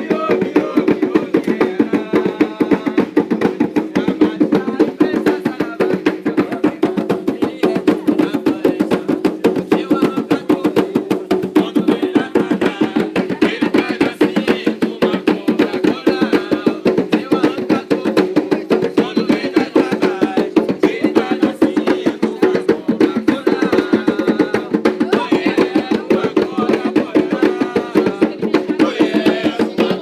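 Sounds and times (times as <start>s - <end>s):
drums beaten in fast rhythm: 0.0s - 30.0s.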